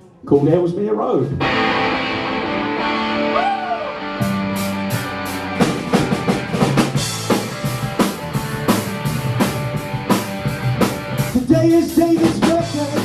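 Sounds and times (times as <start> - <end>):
bass guitar: 1.3 - 13.0
drum kit beat: 1.4 - 13.0
electric guitar chords: 1.4 - 13.0.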